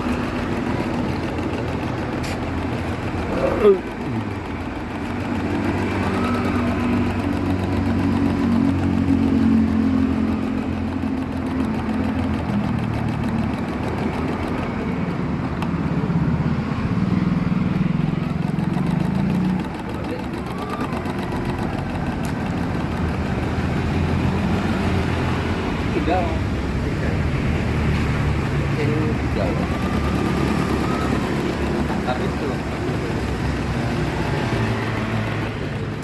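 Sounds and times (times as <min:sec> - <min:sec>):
embroidery machine stitching hum: 0:00.0 - 0:36.0.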